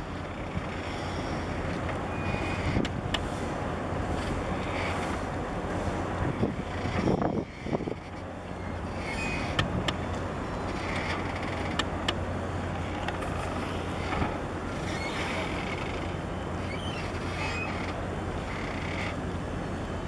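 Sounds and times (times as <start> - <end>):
low engine drone: 0.0 - 20.0
outdoor noise: 0.0 - 20.0.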